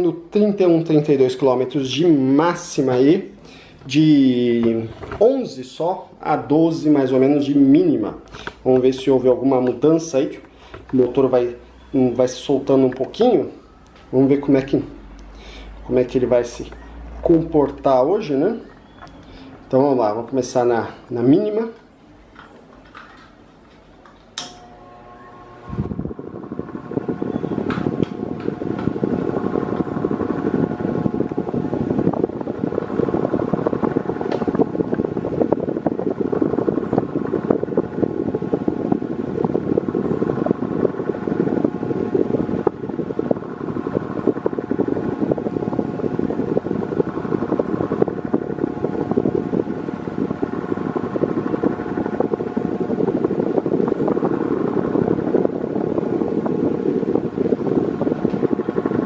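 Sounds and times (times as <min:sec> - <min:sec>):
fan air rush: 0:00.0 - 0:59.0
fan motor hum: 0:00.0 - 0:59.0.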